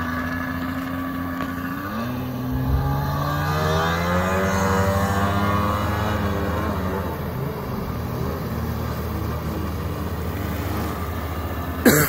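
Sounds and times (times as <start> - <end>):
boat outboard engine drone: 0.0 - 12.0.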